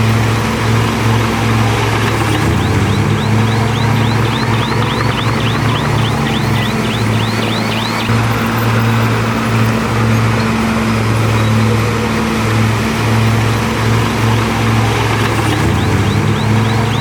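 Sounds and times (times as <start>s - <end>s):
heavy diesel engine under load: 0.0s - 17.0s.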